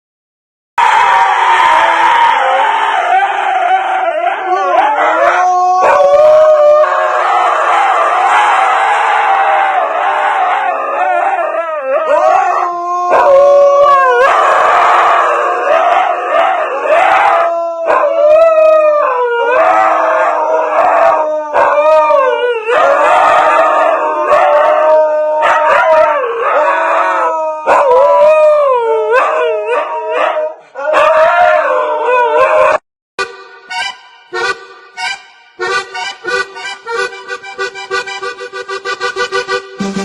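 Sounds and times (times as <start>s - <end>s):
dog howling: 0.8s - 32.8s.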